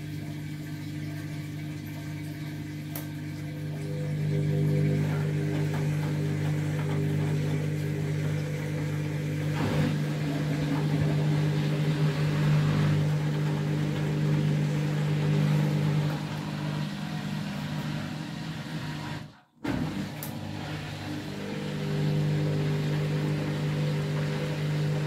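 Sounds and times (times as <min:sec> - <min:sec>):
washing machine drum spinning: 0:00.0 - 0:25.0.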